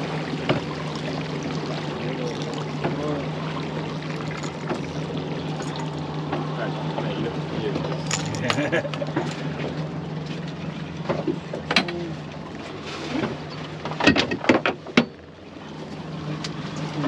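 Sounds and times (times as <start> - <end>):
boat engine idling: 0.0 - 17.0
knocks and clatters on boat: 0.0 - 17.0.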